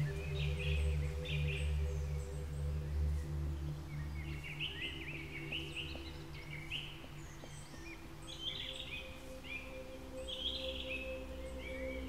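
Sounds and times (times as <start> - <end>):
low drone of sustained tones: 0.0 - 12.0
songbirds chirping: 0.0 - 12.0.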